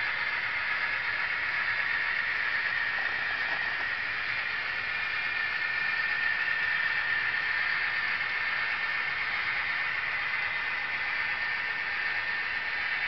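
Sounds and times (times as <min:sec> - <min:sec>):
model train cars rolling: 0:00.0 - 0:13.0.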